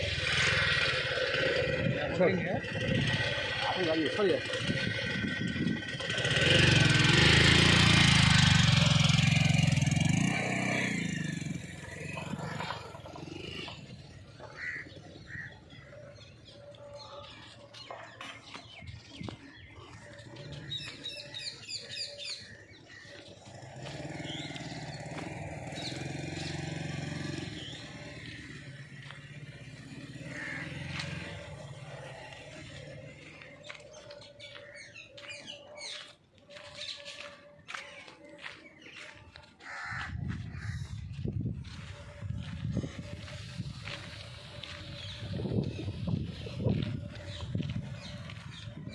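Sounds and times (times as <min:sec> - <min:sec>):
vehicle engine passing: 0:00.0 - 0:17.5, 0:18.6 - 0:36.0, 0:37.7 - 0:48.9.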